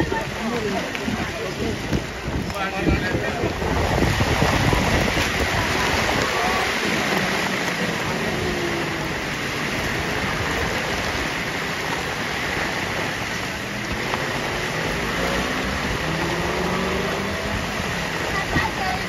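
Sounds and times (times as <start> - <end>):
faint racing motorcycle engines: 0.0 - 19.0
heavy rain falling: 0.0 - 19.0.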